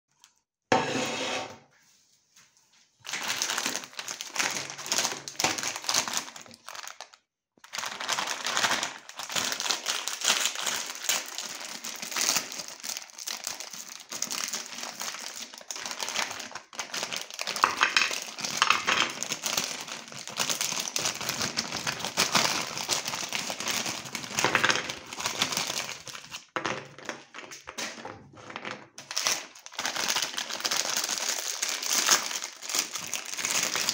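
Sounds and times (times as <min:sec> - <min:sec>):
plastic wrappers crinkling: 0:03.0 - 0:33.9.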